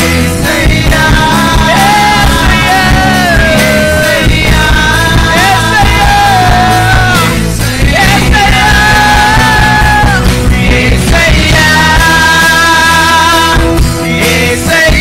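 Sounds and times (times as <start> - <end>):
live worship band playing: 0.0 - 15.0
person singing long notes: 0.0 - 15.0.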